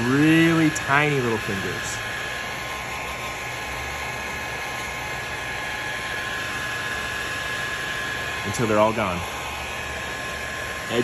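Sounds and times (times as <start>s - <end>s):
faint high fan whine: 0.0s - 11.0s
heat gun blowing air: 0.0s - 11.0s.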